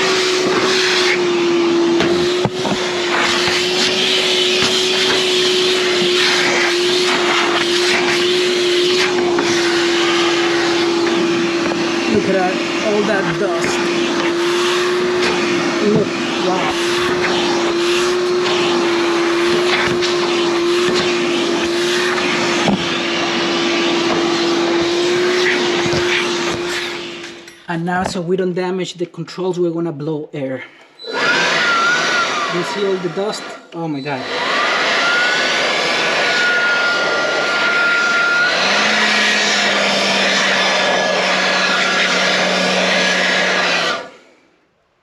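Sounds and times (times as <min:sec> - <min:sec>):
vacuum cleaner whining: 0:00.0 - 0:28.4, 0:30.8 - 0:44.8.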